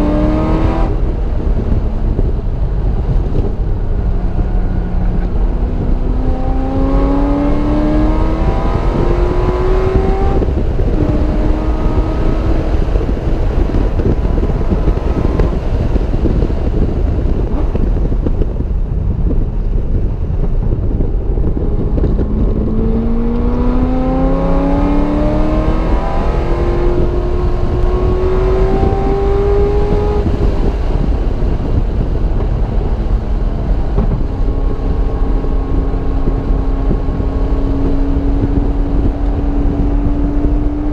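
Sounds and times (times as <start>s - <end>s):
car engine accelerating hard: 0.0s - 40.9s
wind and road noise: 0.0s - 40.9s.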